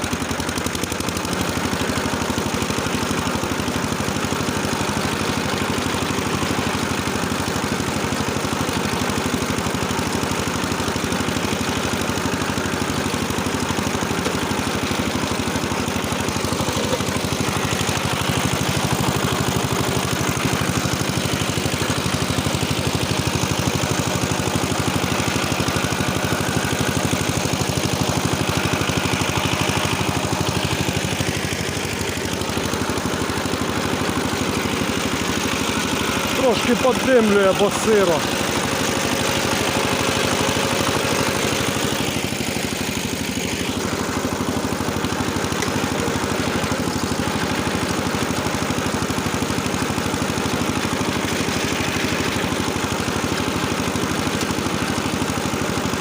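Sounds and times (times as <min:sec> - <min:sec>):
rotary tiller engine running: 0:00.0 - 0:56.0.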